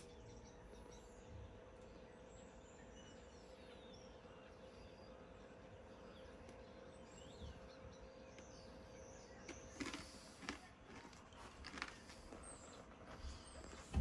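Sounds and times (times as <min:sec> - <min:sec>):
faint bird chirps: 0:00.0 - 0:14.0
low steady hum: 0:00.0 - 0:14.0.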